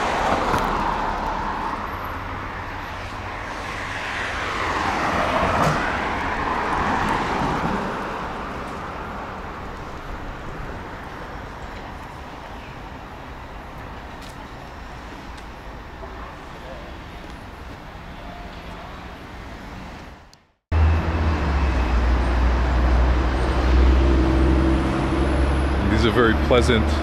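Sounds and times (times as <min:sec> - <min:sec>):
hum of traffic: 0:00.0 - 0:27.0.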